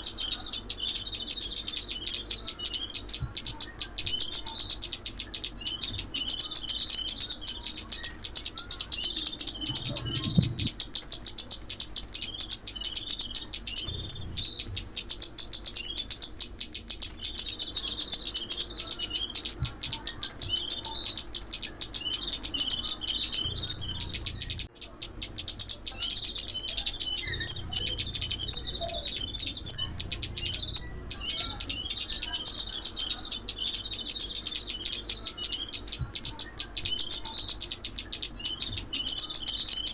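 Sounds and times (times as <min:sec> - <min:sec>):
bird chirping and twittering trills: 0:00.0 - 0:39.9
thin steady high tone: 0:00.0 - 0:39.9.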